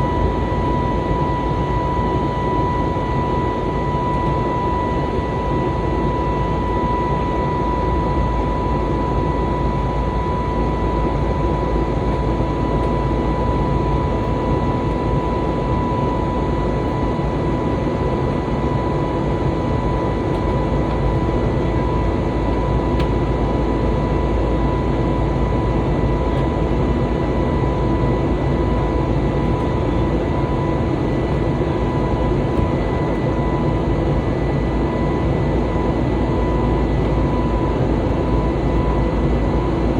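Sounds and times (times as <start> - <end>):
jet engine cabin noise: 0.0 - 39.9
thin steady whine: 0.0 - 39.9.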